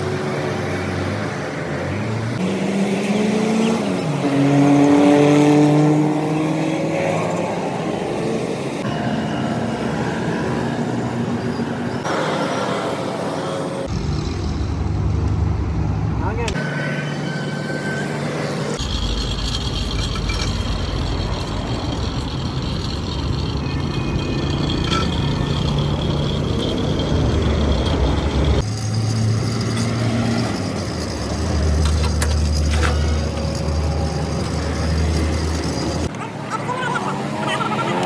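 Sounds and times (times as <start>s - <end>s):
large engine droning: 0.0s - 38.0s.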